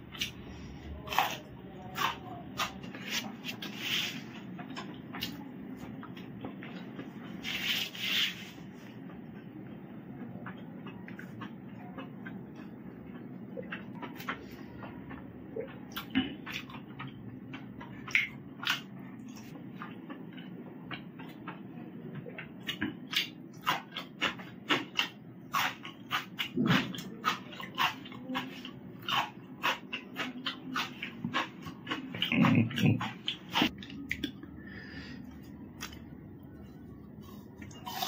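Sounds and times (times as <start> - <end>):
person chewing with mouth open: 0.0 - 38.0
steady low hum: 0.0 - 38.0.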